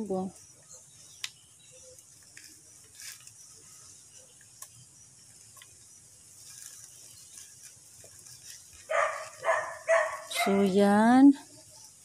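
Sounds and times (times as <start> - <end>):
gloved hands rustling potting mix: 0.8 - 12.0.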